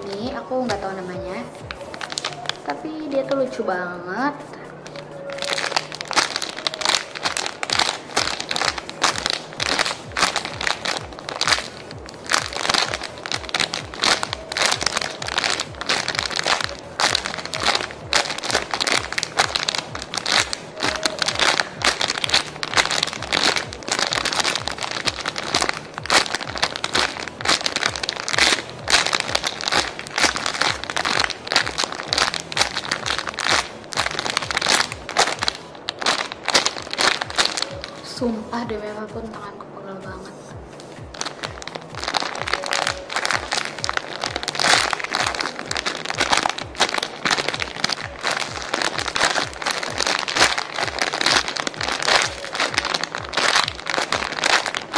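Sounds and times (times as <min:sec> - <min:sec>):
plastic bag crinkling: 0:00.0 - 0:01.0, 0:01.6 - 0:03.2, 0:04.8 - 0:38.2, 0:40.8 - 0:54.9.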